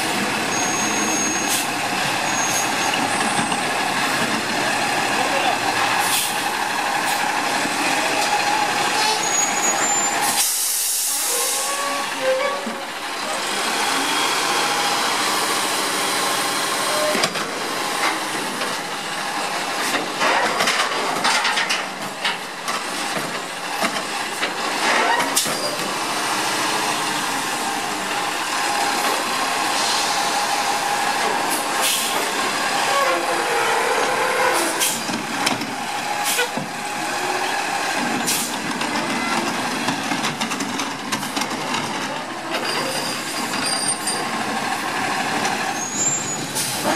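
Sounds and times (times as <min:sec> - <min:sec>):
truck engine and hydraulics: 0:00.0 - 0:46.9.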